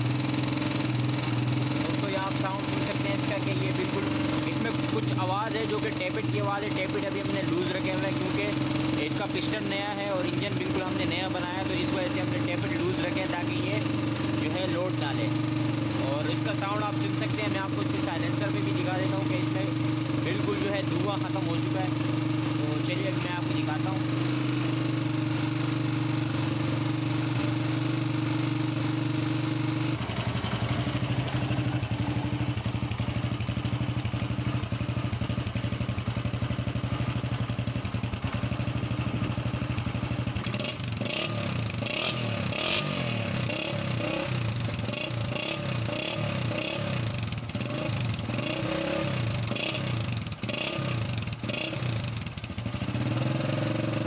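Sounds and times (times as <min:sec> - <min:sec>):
motorcycle engine with tappet clatter: 0:00.0 - 0:54.0.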